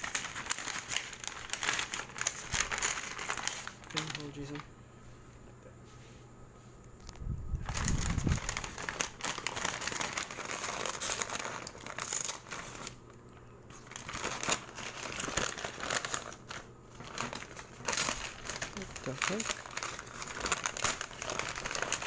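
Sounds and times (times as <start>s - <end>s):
paper bag crinkling: 0.0s - 4.7s, 7.5s - 13.1s, 13.7s - 22.0s.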